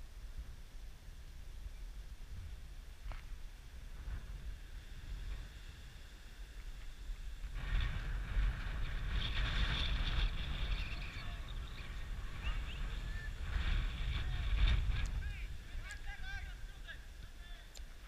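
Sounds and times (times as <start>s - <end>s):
wind buffeting microphone: 0.3s - 18.0s.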